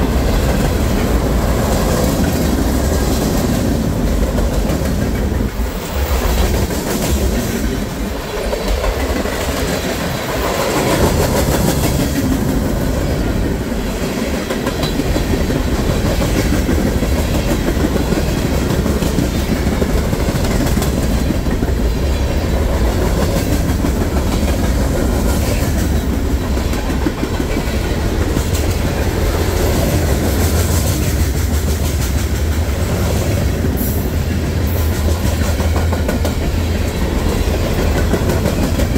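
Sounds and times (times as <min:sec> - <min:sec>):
freight train rumbling past: 0:00.0 - 0:38.9
wheels clacking over rail joints: 0:00.0 - 0:38.9.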